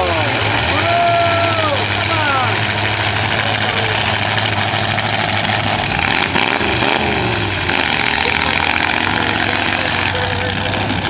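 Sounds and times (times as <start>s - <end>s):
car engines running: 0.0s - 11.0s
engine revving: 0.0s - 11.0s.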